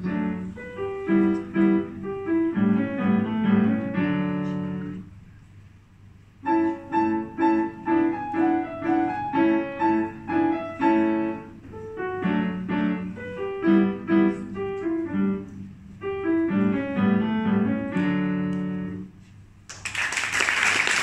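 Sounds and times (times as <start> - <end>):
solo piano playing: 0.0 - 5.2, 6.4 - 19.2.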